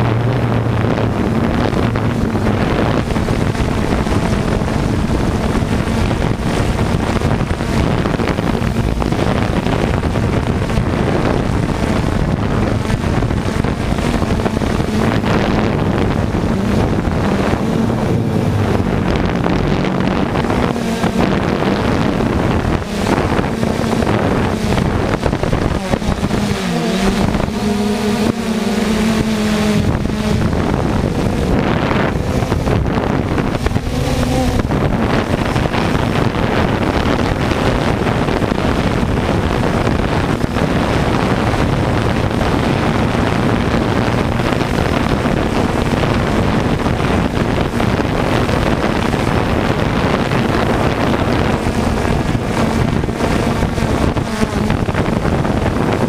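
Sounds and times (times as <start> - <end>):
drone propellers buzzing: 0.0 - 56.0
wind rushing over microphone: 0.0 - 56.0.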